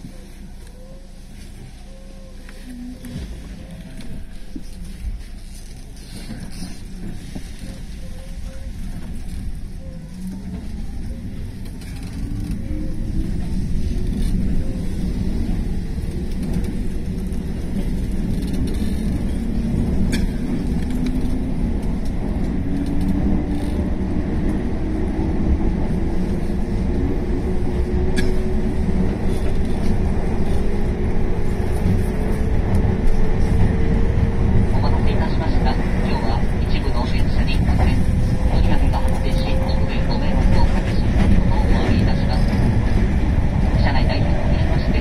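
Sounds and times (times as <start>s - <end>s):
train wheels rumbling on rail: 3.0s - 45.0s.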